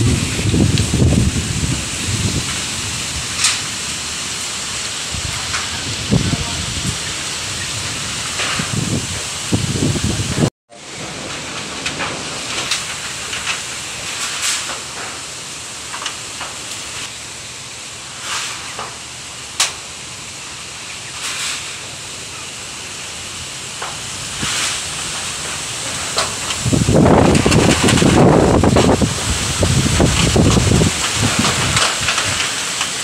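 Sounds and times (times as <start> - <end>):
short crackles and clatters: 0.0 - 9.5, 10.3 - 17.2, 18.1 - 20.0, 21.0 - 22.0, 23.7 - 33.0
storm wind thrashing leaves: 0.0 - 33.0.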